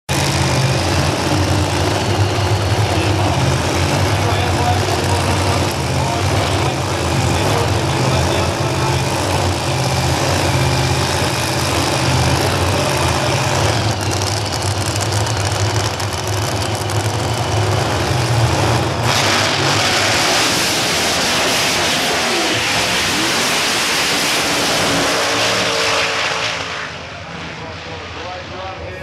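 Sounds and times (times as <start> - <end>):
race car engines idling: 0.1 - 29.0
race cars launching at full throttle: 0.2 - 28.9.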